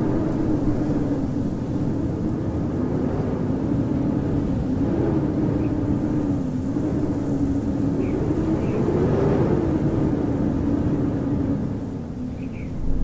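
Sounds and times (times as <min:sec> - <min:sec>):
howling blizzard wind: 0:00.0 - 0:13.0.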